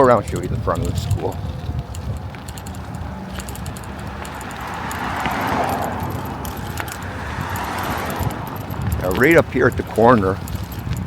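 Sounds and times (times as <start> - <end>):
car passing: 0.0 - 11.0
faint rattles: 0.0 - 11.0
road and wind rumble: 0.0 - 11.0.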